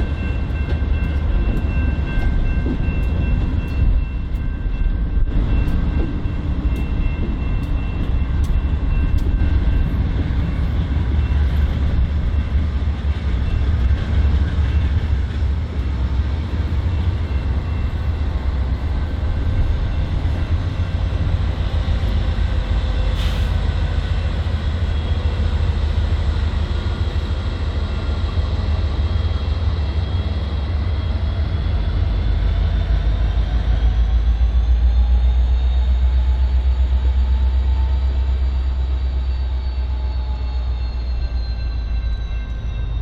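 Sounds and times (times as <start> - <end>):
freight train rumbling: 0.0 - 43.0.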